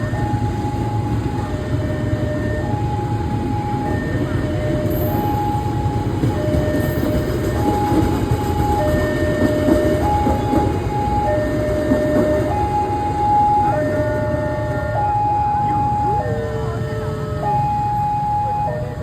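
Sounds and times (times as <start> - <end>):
freight train rumbling past: 0.0 - 19.0
two-tone warning alarm: 0.0 - 19.0.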